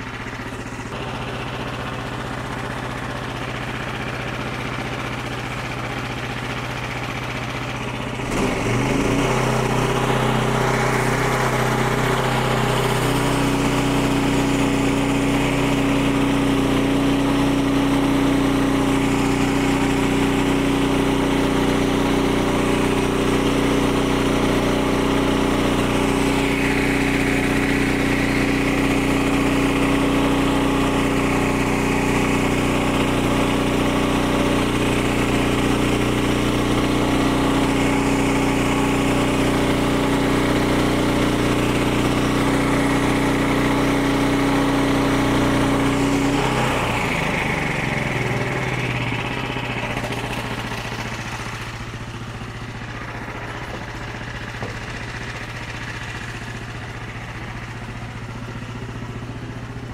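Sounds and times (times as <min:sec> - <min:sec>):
small engine revving: 0:00.0 - 0:59.9.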